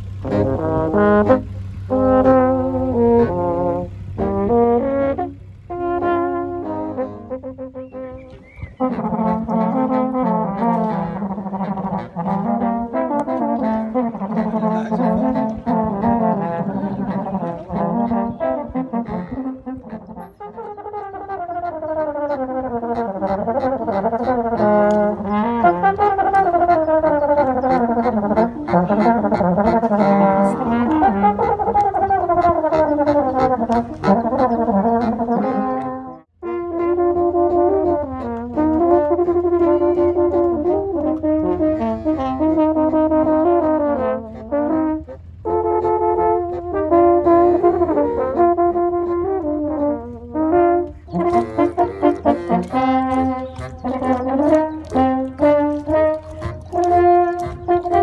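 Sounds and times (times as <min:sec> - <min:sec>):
small brass band playing a march: 0:00.0 - 0:58.0.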